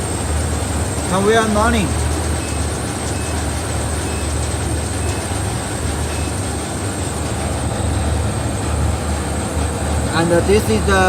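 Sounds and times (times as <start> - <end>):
conveyor machine humming: 0.0 - 11.0.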